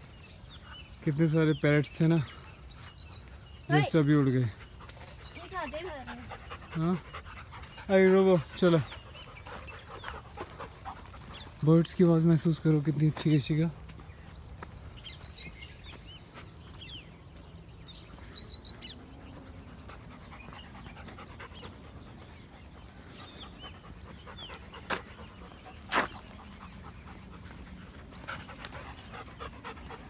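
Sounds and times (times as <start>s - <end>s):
wild birds chirping: 0.0s - 30.0s.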